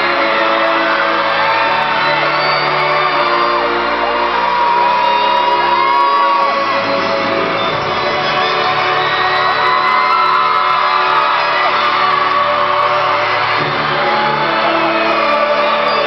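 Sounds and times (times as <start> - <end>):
concert intro music with chords: 0.0 - 16.0
crowd screaming: 0.0 - 16.0.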